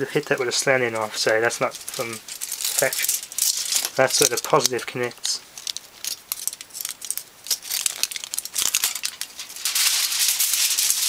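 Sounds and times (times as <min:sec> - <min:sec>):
foil and paper crinkling: 0:00.0 - 0:11.0.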